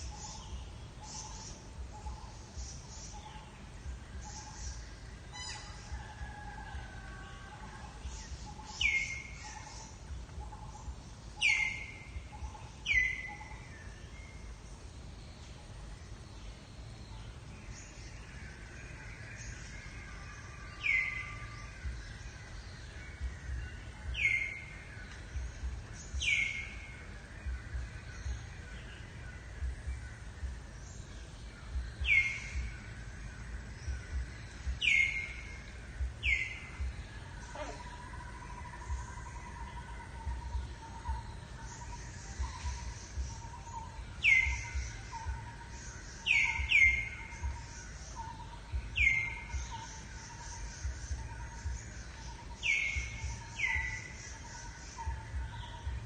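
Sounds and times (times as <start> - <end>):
outdoor background noise: 0.0 - 56.0.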